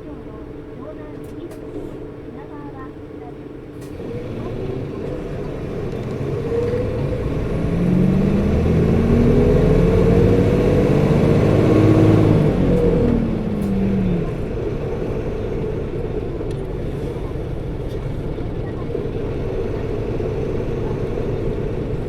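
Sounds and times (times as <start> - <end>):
bus diesel engine accelerating: 0.0 - 22.0
engine cooling fan: 3.7 - 22.0.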